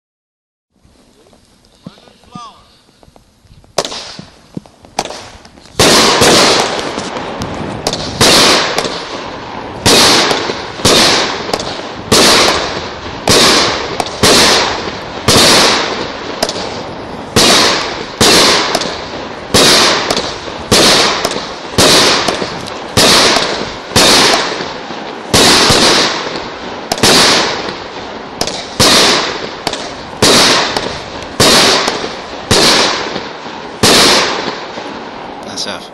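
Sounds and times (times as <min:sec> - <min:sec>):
firework shots banging: 0:01.3 - 0:35.7.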